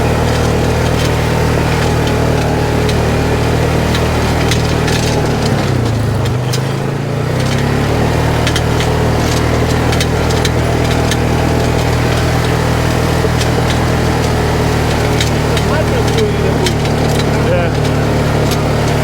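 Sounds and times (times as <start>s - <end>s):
sharp ticks: 0.0s - 19.0s
single-cylinder engine running: 0.0s - 19.0s.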